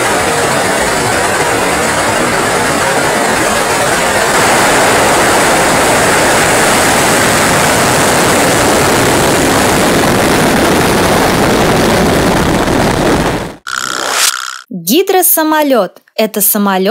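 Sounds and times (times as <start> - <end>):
rocket engines roaring: 0.0 - 14.7.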